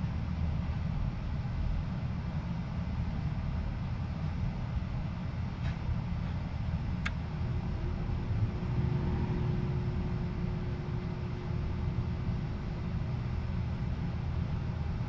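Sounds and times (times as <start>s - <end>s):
duct fan running: 0.0s - 15.0s.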